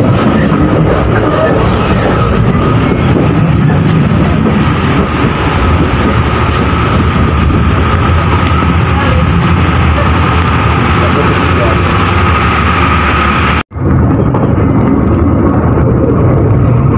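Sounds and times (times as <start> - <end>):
high whine: 0.0 - 16.9
train wheels rumbling on track: 0.0 - 16.9.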